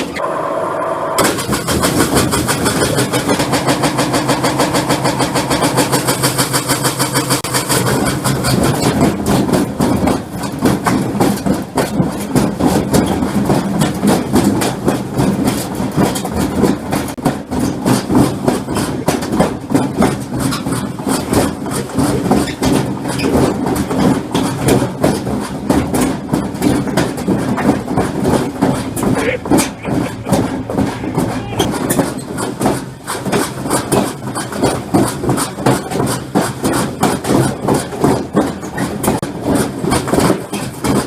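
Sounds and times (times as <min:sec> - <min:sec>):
washing machine drum clattering: 0:01.2 - 0:41.0.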